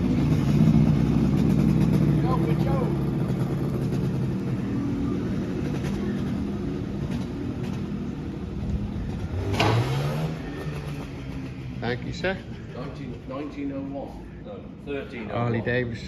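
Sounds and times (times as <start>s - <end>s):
vehicle engine running: 0.0s - 14.8s.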